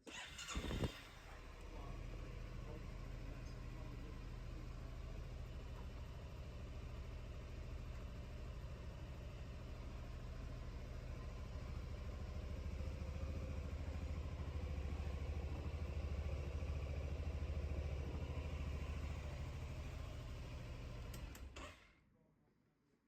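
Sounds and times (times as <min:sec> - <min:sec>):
motor scooter engine idling: 0:00.0 - 0:21.8.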